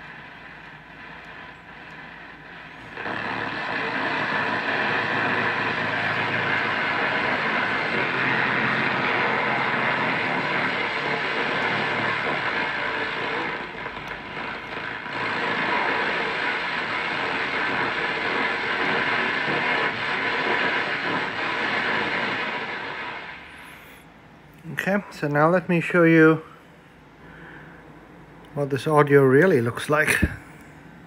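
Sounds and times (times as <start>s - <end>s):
distorted radio static: 0.0s - 26.6s, 28.6s - 30.6s.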